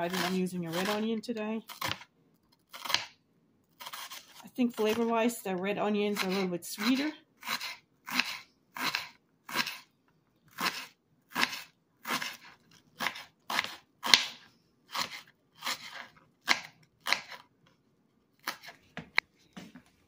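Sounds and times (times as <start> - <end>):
knife slicing onion: 0.0 - 3.2, 3.8 - 5.4, 6.0 - 9.9, 10.5 - 17.5, 18.4 - 19.2.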